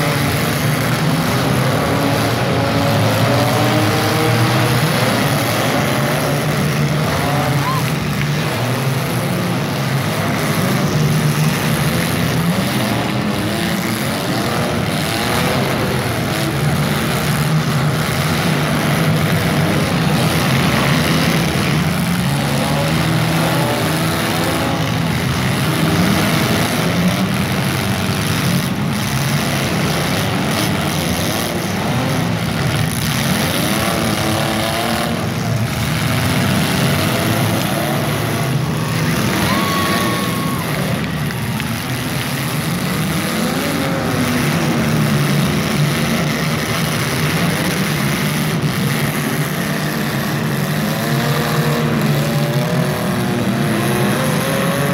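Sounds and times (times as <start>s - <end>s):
car engines revving hard: 0.0s - 54.9s.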